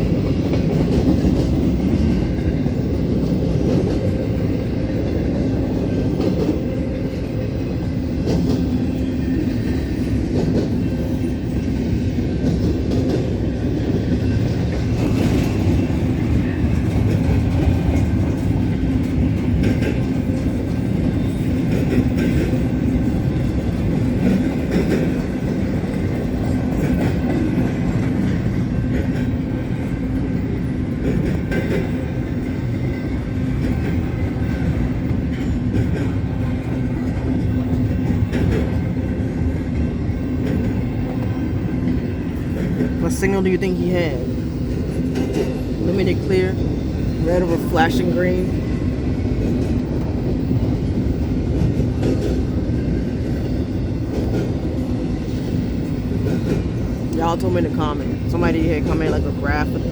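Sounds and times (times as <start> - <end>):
freight cars rumbling on rails: 0.0 - 59.9
wheels clicking over rail joints: 0.1 - 43.0, 48.5 - 57.4.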